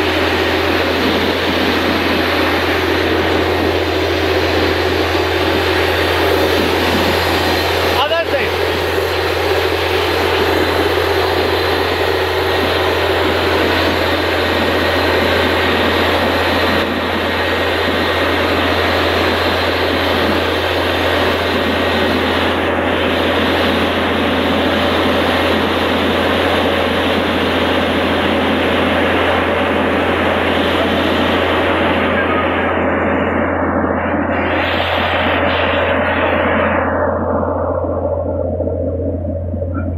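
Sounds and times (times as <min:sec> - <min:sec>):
rush of air and spraying water: 0:00.0 - 0:39.7
engine and compressor drone: 0:00.0 - 0:39.9.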